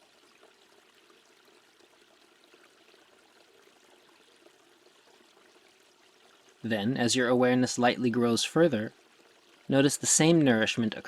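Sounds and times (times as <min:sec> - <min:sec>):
faint flowing water: 0:00.0 - 0:11.0.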